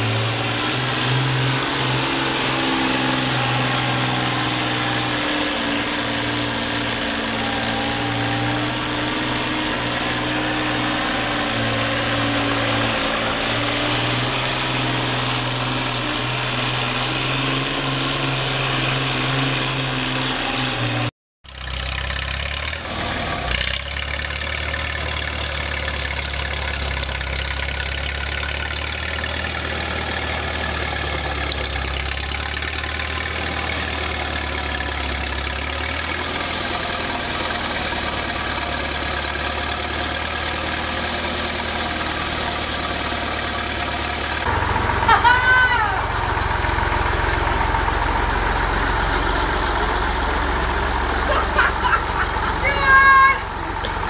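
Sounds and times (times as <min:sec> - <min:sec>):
crawler dozer engine running: 0:00.0 - 0:54.0
tractor engine under load: 0:00.0 - 0:54.0.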